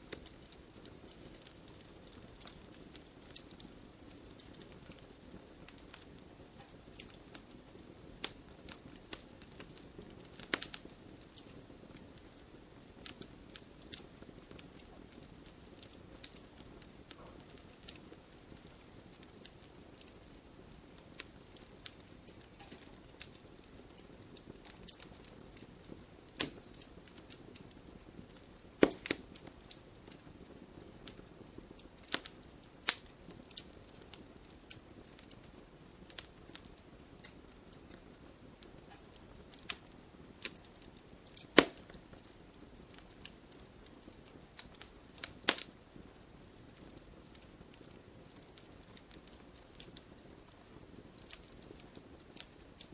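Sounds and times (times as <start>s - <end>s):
low rumble of flames: 0.0s - 52.9s
wood crackling and popping: 0.0s - 52.9s.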